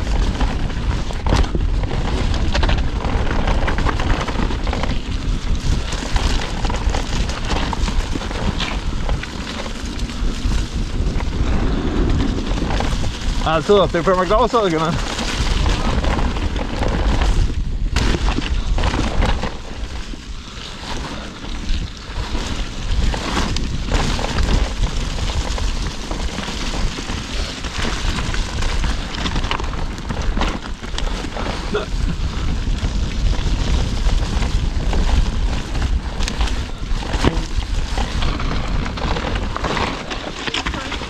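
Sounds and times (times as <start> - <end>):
bike clicks and rattles: 0.0 - 41.0
tyre noise on dirt: 0.0 - 41.0
wind rumble on microphone: 0.0 - 41.0.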